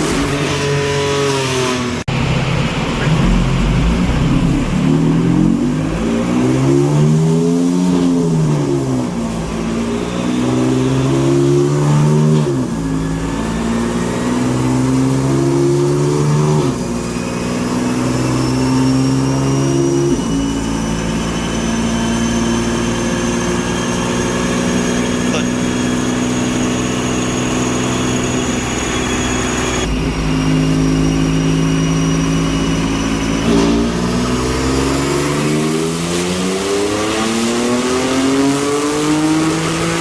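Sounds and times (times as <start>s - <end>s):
car engine revving on dyno: 0.0s - 40.0s
thin turbo whine: 1.9s - 11.8s, 16.6s - 40.0s.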